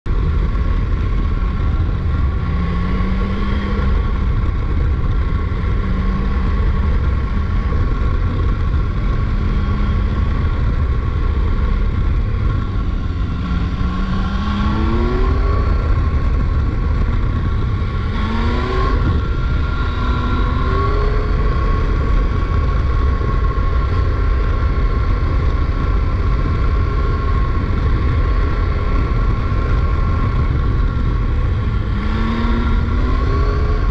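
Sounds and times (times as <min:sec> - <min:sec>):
motorcycle engine revving: 0:00.1 - 0:33.9
wind rushing: 0:00.8 - 0:33.9.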